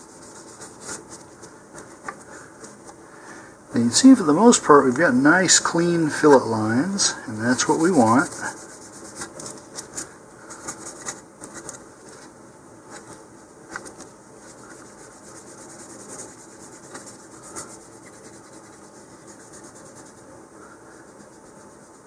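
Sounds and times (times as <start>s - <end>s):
tissue wiping strokes: 0.0s - 3.1s, 3.9s - 22.0s.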